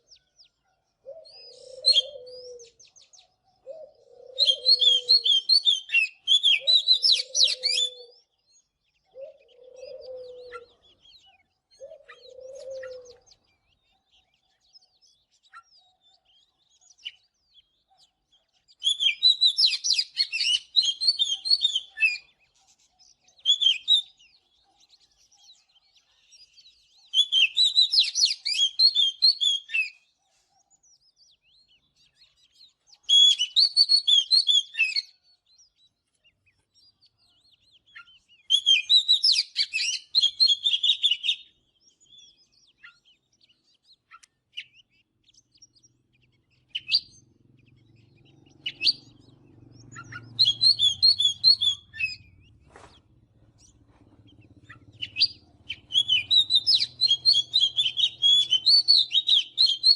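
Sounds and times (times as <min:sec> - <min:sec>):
magpie-robin whistled song: 0:00.0 - 0:59.9.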